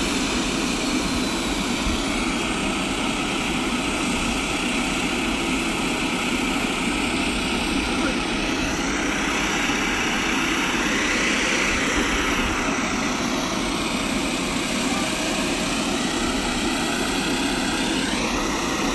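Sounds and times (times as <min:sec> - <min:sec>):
turboprop engines idling: 0:00.0 - 0:18.9.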